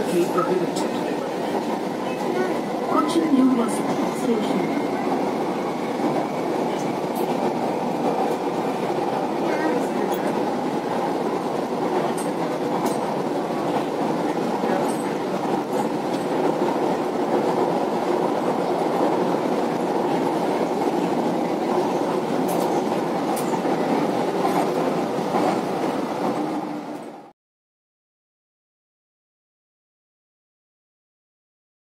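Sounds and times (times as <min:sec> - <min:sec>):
train wheels rumbling: 0:00.0 - 0:27.3.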